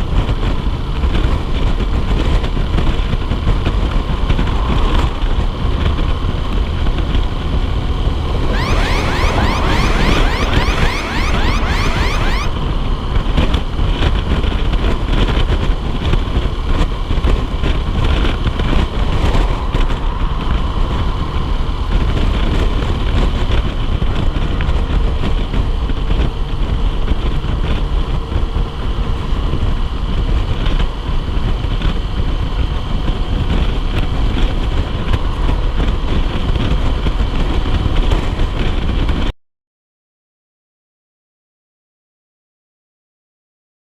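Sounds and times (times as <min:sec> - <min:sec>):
wind rumble on microphone: 0:00.0 - 0:08.5, 0:12.5 - 0:39.3.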